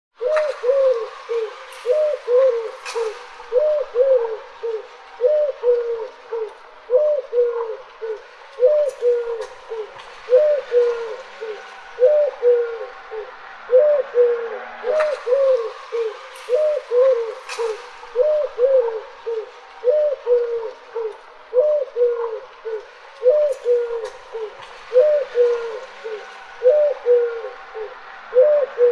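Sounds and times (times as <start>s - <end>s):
dove cooing: 0.2s - 28.9s.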